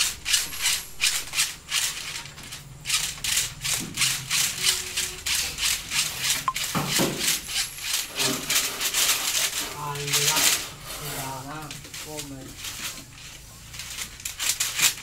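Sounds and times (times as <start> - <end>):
wires rubbing inside a conduit: 0.0 - 15.0.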